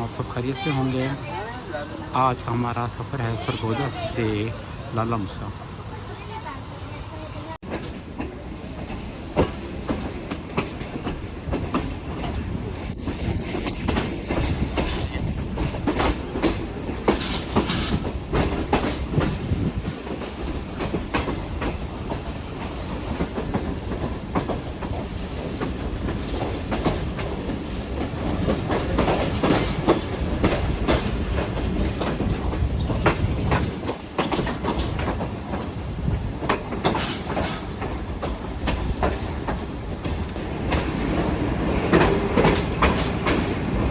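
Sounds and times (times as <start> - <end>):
train coaches rumbling: 0.0 - 43.9
wheels clattering over rail joints: 5.6 - 43.9.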